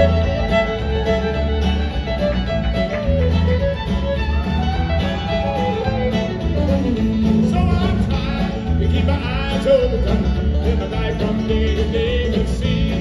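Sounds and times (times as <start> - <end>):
bluegrass band playing: 0.0 - 13.0
fiddle lead: 0.0 - 13.0.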